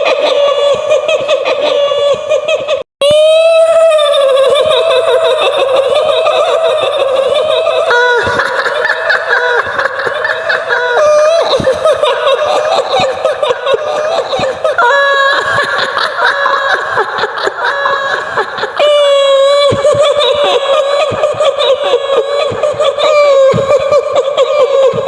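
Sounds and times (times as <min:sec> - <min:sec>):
shrill female cackling laughter: 0:00.0 - 0:02.8, 0:04.0 - 0:25.0.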